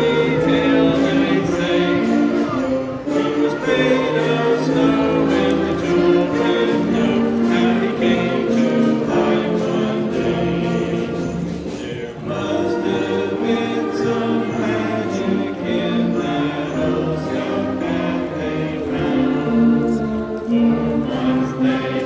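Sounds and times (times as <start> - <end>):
voices singing along: 0.0 - 22.0.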